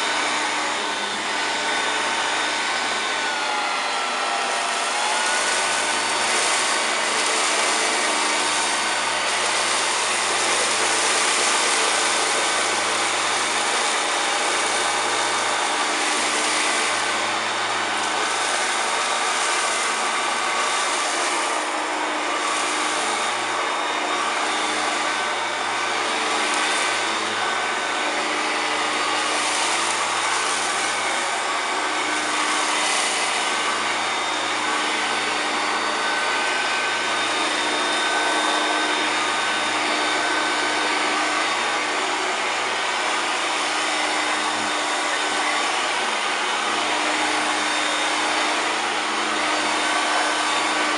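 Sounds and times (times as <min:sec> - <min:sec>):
vacuum cleaner motor whining: 0:00.0 - 0:50.9
vacuum sucking up cereal hiss: 0:00.1 - 0:50.9.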